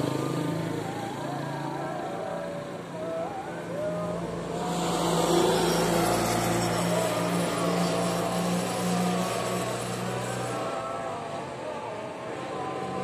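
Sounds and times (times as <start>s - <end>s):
dump truck passing: 0.0s - 13.0s.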